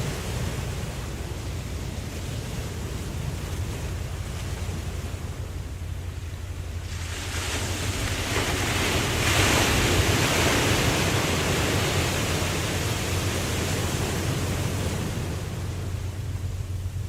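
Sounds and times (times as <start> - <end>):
ocean wave washing: 0.0 - 17.0.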